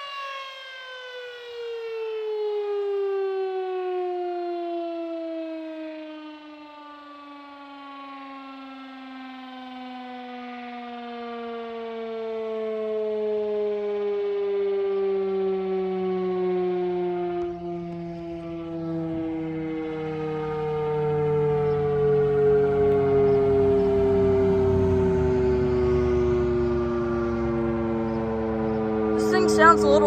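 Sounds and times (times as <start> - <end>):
warning siren winding down: 0.0 - 30.0.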